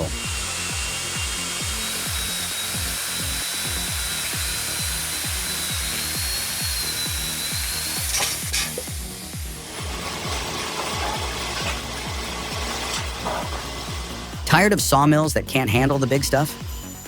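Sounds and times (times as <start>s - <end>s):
background music with thumping beat: 0.0s - 17.0s
power saw cutting wood: 0.0s - 17.0s.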